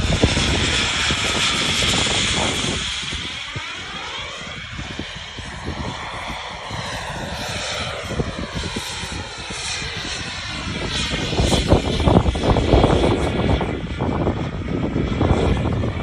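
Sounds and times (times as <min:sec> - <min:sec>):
model jet engine whine: 0:00.0 - 0:16.0
wind rumbling on microphone: 0:00.0 - 0:16.0.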